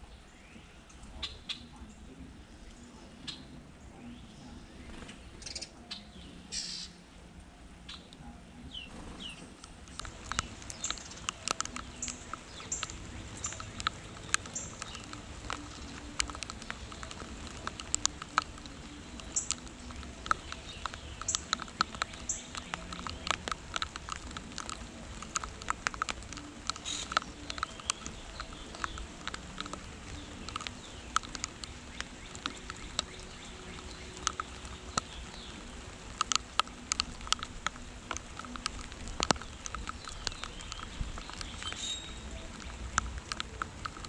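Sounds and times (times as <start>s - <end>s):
rain falling: 0.0s - 44.0s
raindrops ticking on a surface: 0.0s - 44.0s.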